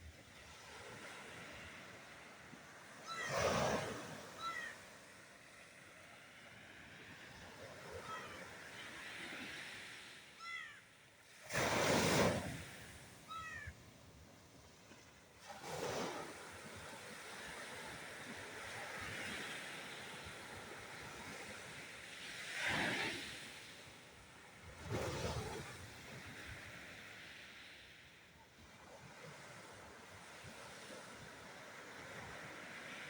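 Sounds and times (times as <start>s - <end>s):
waves crashing on beach: 0.0s - 33.0s.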